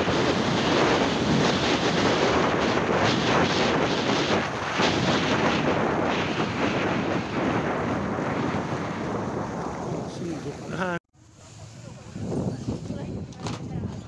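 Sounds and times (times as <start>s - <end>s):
wind buffeting microphone: 0.0s - 11.0s, 11.8s - 14.0s.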